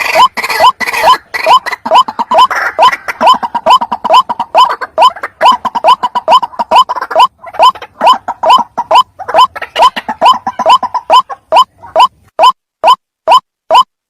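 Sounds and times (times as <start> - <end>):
waterhen calling: 0.0 - 13.9.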